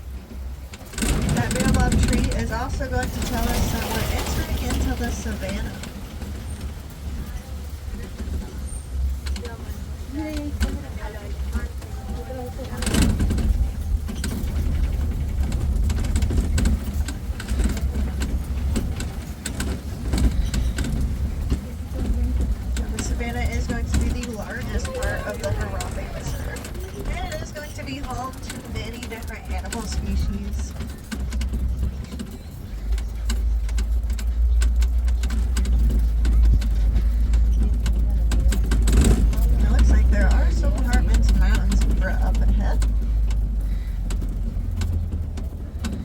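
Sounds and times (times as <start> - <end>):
truck engine and road rumble: 0.0 - 46.0
vehicle rattles and knocks: 0.0 - 46.0.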